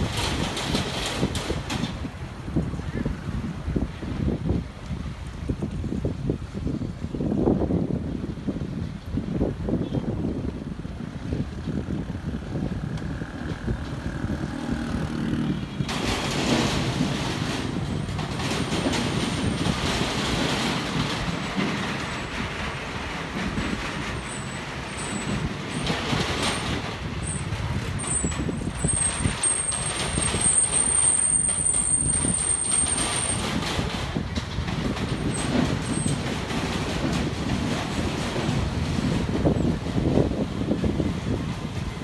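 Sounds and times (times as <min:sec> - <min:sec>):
strong wind buffeting microphone: 0:00.0 - 0:42.0.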